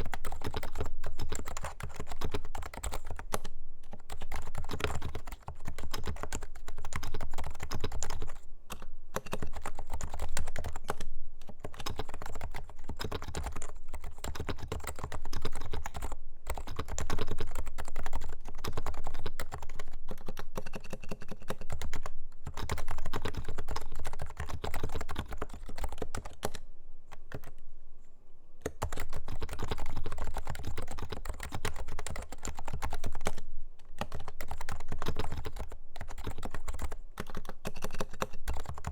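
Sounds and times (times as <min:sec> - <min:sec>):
fast keyboard typing: 0:00.0 - 0:26.6, 0:27.2 - 0:27.6, 0:28.6 - 0:33.4, 0:34.0 - 0:38.9.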